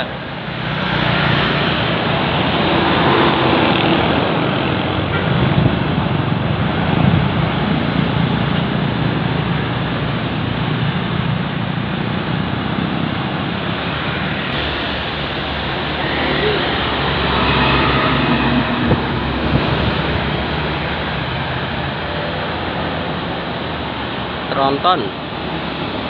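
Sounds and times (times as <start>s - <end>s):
bus passing: 0.0s - 26.0s
vehicles passing: 0.0s - 26.0s.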